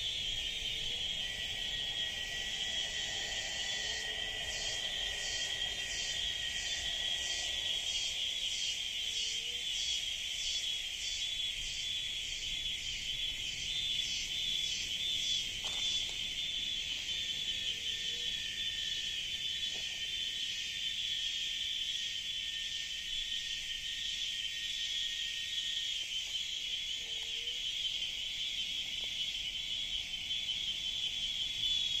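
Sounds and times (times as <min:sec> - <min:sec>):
cicadas droning: 0:00.0 - 0:32.0
higher pulsing insect layer: 0:00.0 - 0:32.0.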